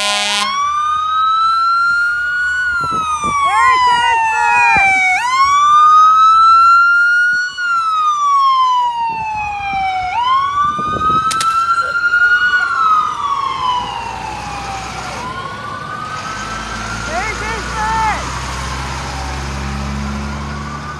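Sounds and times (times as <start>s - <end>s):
fire engine wail siren: 0.0s - 20.9s.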